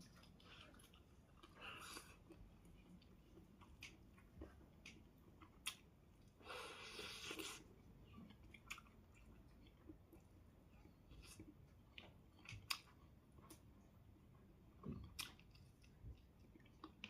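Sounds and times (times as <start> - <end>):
chewing: 0.0 - 13.7, 14.8 - 17.0.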